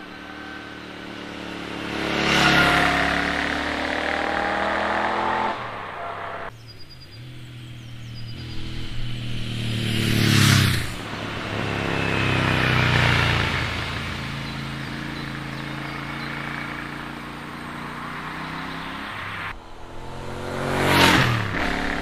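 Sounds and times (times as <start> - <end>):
motorcycle riding past: 0.0 - 22.0.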